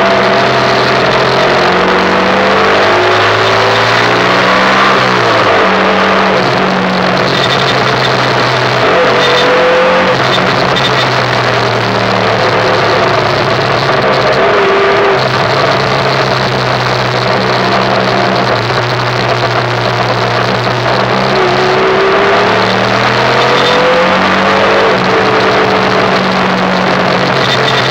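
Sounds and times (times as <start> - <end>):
motorcycle engine running: 0.0 - 27.9
strong wind: 0.0 - 27.9
tire and wind noise on road: 0.0 - 27.9.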